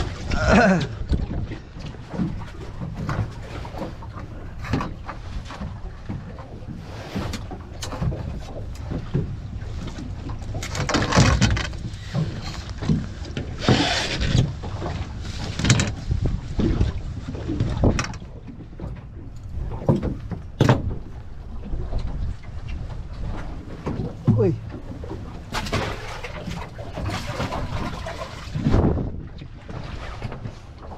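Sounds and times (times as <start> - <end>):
water sloshing against boat: 0.0 - 30.9.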